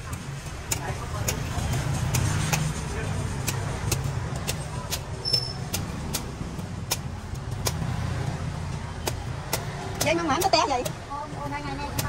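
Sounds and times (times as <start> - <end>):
knife chopping coconut husk: 0.0 - 12.0
low rumble of road traffic: 0.0 - 12.0.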